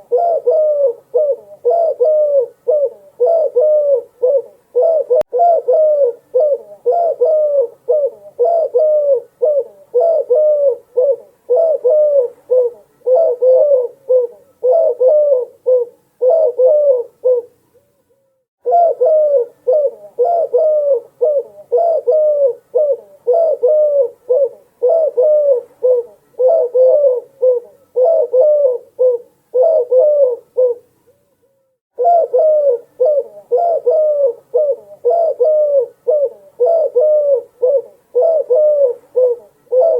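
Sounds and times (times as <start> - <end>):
dove cooing: 0.0 - 17.8, 18.6 - 31.0, 32.0 - 39.9.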